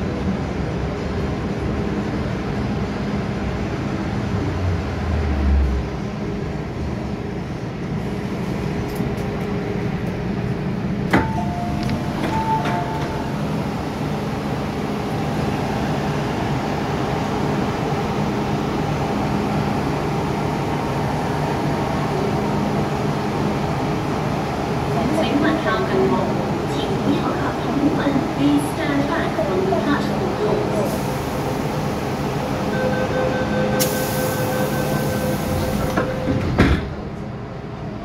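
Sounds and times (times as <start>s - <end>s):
train motors and wheels humming: 0.0s - 38.0s.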